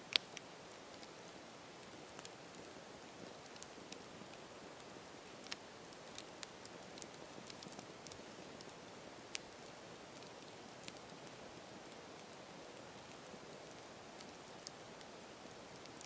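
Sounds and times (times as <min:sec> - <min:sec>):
campfire hissing: 0:00.0 - 0:16.0
wood popping and crackling: 0:00.0 - 0:16.0.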